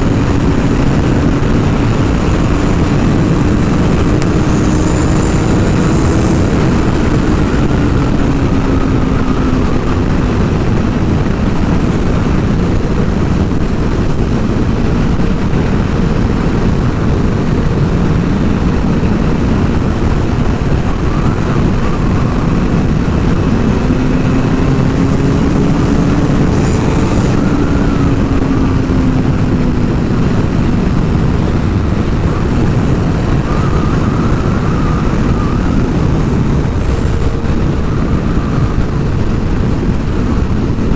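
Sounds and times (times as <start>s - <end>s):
motorcycle engine: 0.0s - 40.9s
wind rushing over microphone: 0.0s - 40.9s.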